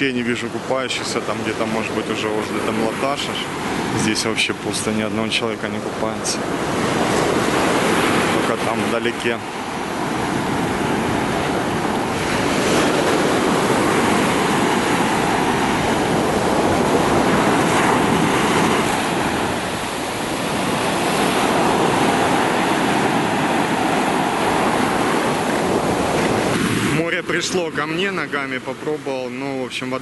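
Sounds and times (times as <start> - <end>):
sea waves washing onto beach: 0.0 - 30.0.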